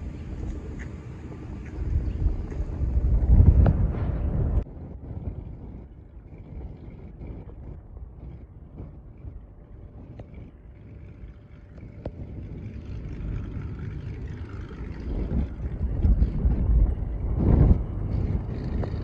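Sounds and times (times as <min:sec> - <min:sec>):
aircraft engine rumble: 0:00.0 - 0:19.0
wind buffeting microphone: 0:00.0 - 0:19.0.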